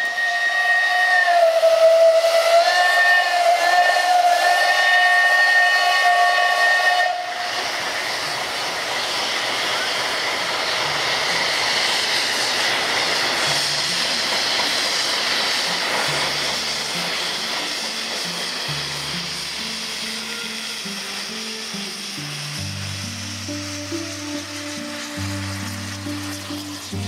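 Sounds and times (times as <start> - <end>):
steam hissing: 0.0 - 27.0
steam locomotive whistle: 0.0 - 27.0.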